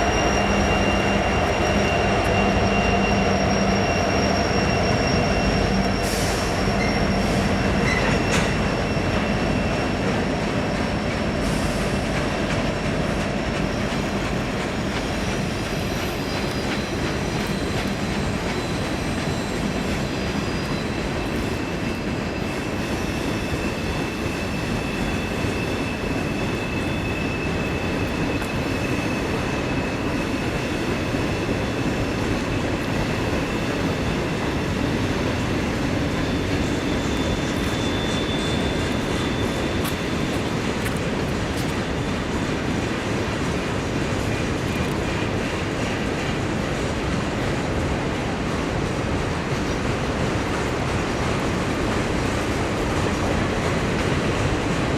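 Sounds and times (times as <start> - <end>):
high wheel squeal: 0.0 - 46.2
train wheels rumbling on rail: 0.0 - 54.9.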